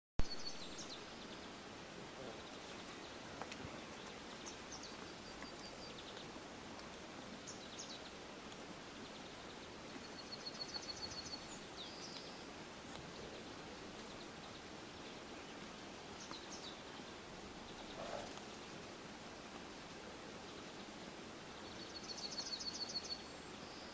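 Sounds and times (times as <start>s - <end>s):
outdoor background noise: 0.2s - 23.9s
small birds chirping and trilling: 0.2s - 23.9s.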